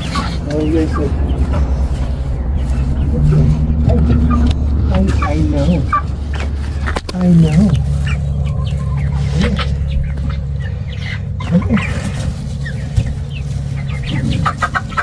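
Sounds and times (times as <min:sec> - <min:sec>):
soft low clucks: 0:00.0 - 0:13.2
chicks peeping: 0:00.0 - 0:15.0
steady low hum: 0:00.0 - 0:15.0.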